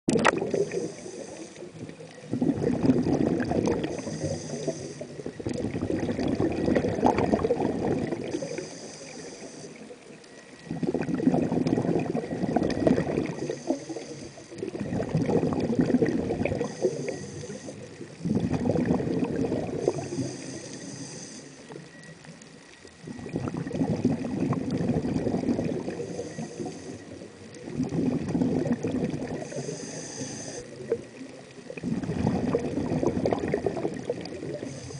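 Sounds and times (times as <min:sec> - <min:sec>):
underwater breathing and bubbling: 0:00.1 - 0:34.9.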